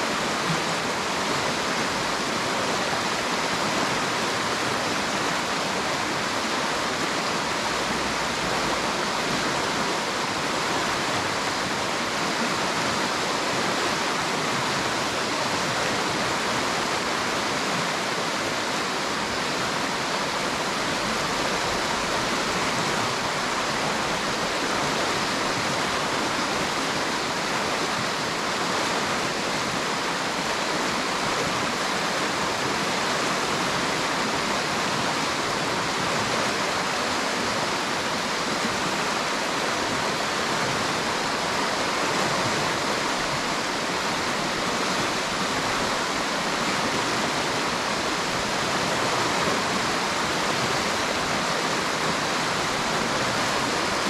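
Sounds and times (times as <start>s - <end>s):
river water rushing over rocks: 0.0s - 54.0s.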